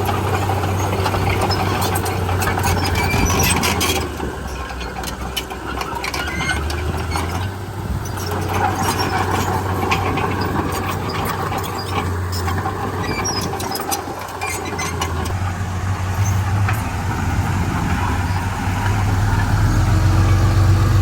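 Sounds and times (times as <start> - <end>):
bulldozer diesel engine running: 0.0 - 21.0
steel tracks squealing and clanking: 0.0 - 21.0.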